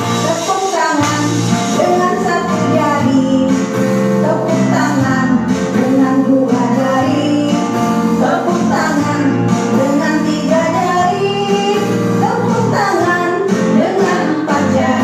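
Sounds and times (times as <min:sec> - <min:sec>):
song with singing: 0:00.0 - 0:15.0.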